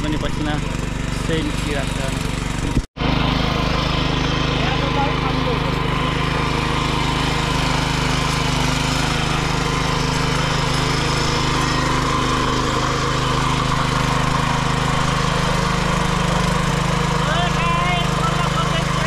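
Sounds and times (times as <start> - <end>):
small engine running under load: 0.0 - 19.0
tines churning dry soil: 0.0 - 19.0.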